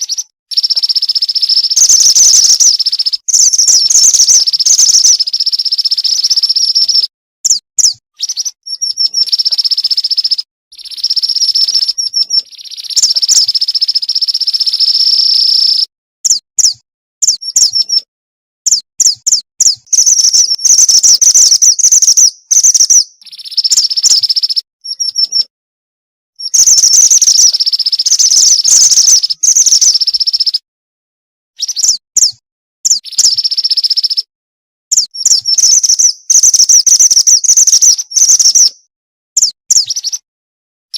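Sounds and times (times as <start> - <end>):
bird trilling chirps: 0.0 - 18.1, 18.7 - 25.5, 26.4 - 30.6, 31.6 - 34.3, 34.9 - 40.2.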